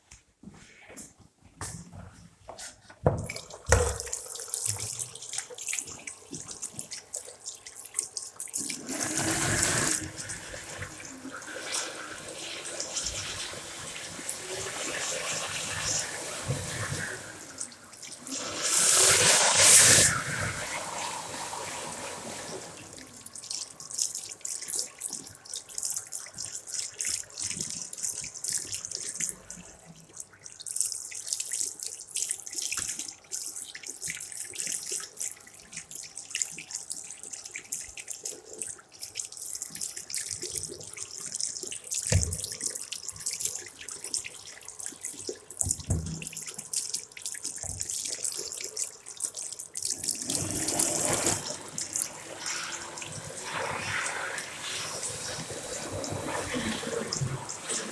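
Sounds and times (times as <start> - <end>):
tap water splashing into sink: 3.0 - 20.8, 22.2 - 57.9.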